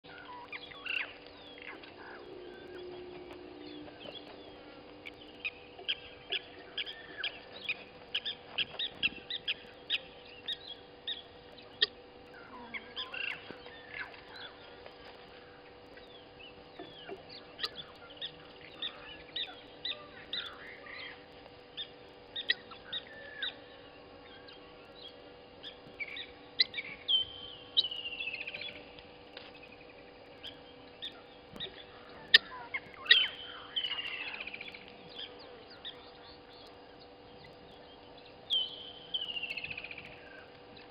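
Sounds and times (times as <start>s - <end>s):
birds chirping and calling: 0.0s - 40.9s
faint steady hum: 0.0s - 40.9s.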